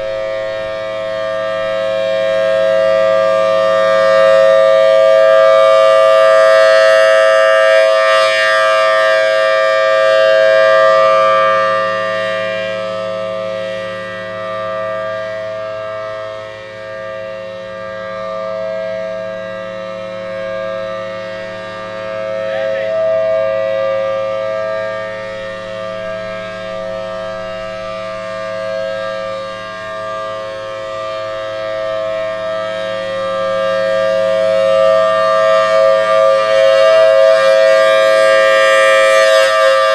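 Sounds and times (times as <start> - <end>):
civil defense siren steady tone: 0.0 - 39.9.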